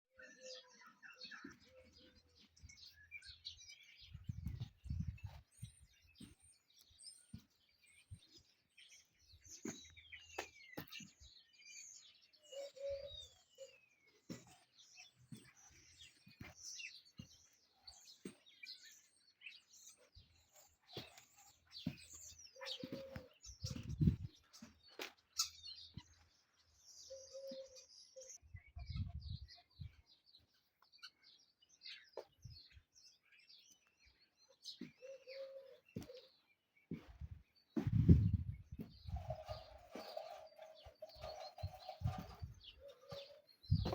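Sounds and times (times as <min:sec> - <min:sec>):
small birds chirping: 0:00.2 - 0:43.9.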